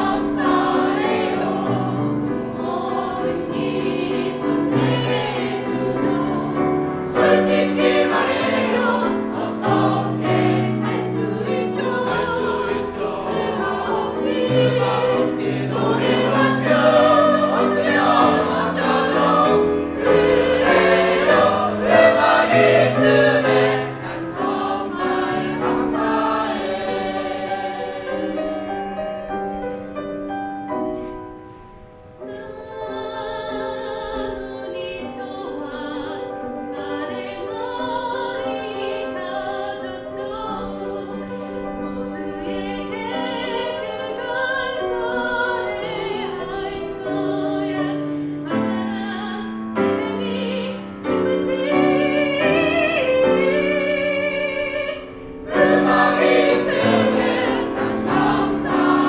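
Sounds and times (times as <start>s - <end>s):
choir singing: 0.0s - 29.9s, 32.3s - 59.0s.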